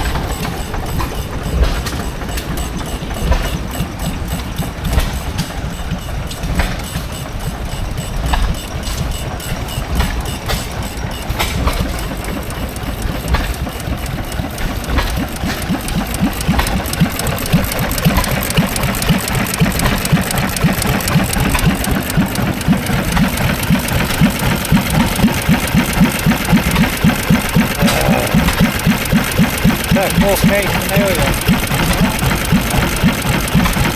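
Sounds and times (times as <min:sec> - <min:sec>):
antique engine idling: 0:00.0 - 0:33.9.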